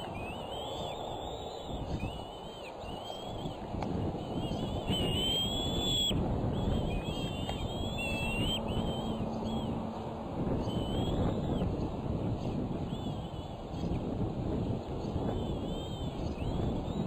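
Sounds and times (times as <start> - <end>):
eaglets whistled begging calls: 0.0 - 11.8, 12.8 - 14.0, 15.0 - 17.0
low background rush: 0.0 - 17.0.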